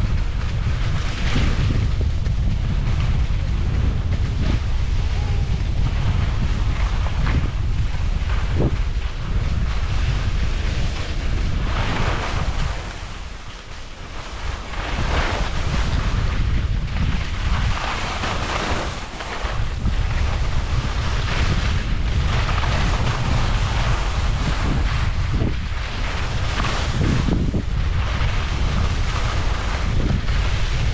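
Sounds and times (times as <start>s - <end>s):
ski edges scraping snow: 0.0s - 30.9s
wind buffeting microphone: 0.0s - 30.9s.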